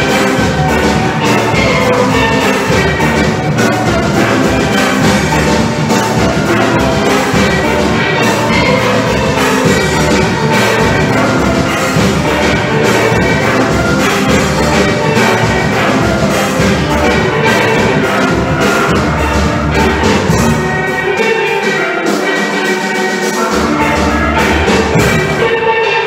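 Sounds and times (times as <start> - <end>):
drum beat: 0.0 - 26.0
steel pans playing: 0.0 - 26.0.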